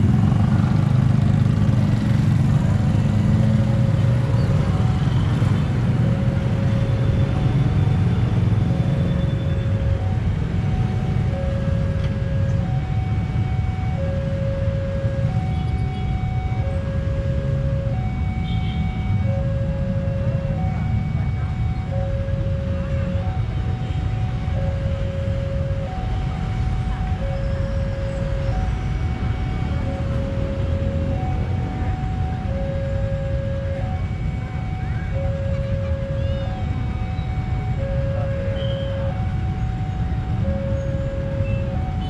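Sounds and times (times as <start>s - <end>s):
vehicle engines rumbling: 0.0s - 42.0s.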